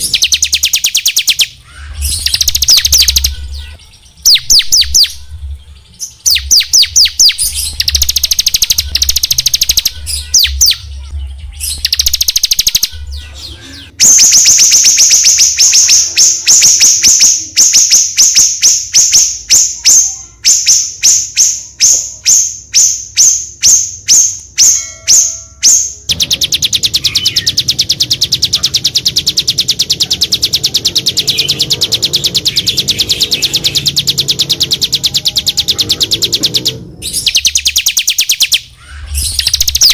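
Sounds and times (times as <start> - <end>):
songbirds calling: 0.0 - 39.9.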